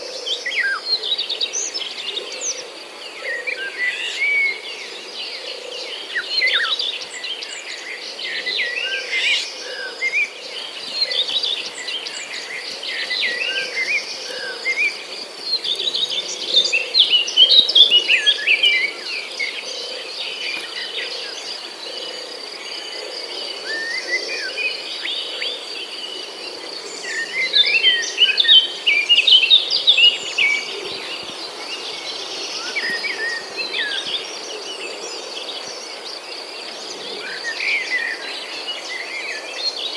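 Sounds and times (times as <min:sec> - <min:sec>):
high insect drone: 0:00.0 - 0:39.9
songbirds chirping and trilling: 0:00.0 - 0:39.9.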